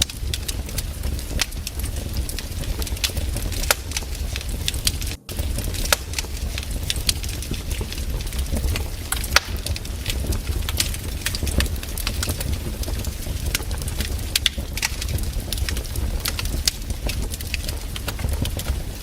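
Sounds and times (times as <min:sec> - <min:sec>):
campfire crackling and popping: 0:00.0 - 0:19.0
steady low rumble: 0:00.0 - 0:19.0.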